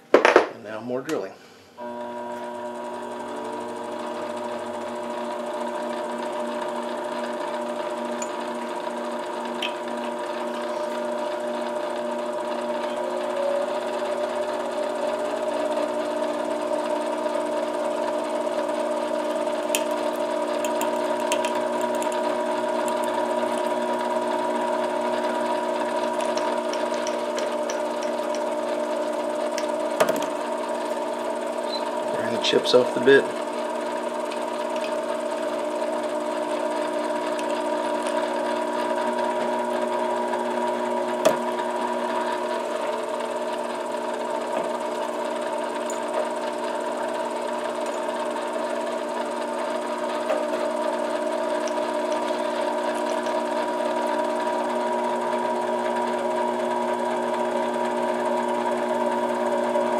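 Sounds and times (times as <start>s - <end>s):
drill bit boring plastic: 1.8s - 59.9s
lathe motor humming: 1.8s - 59.9s.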